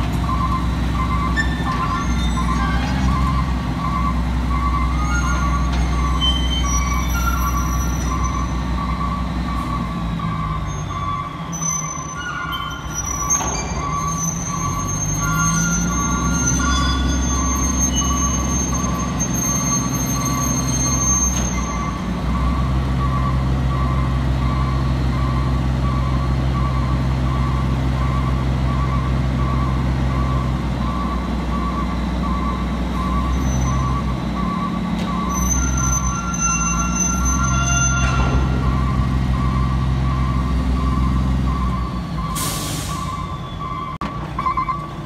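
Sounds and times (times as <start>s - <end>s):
truck diesel engine under load: 0.0s - 45.0s
truck warning beeper: 0.0s - 45.0s.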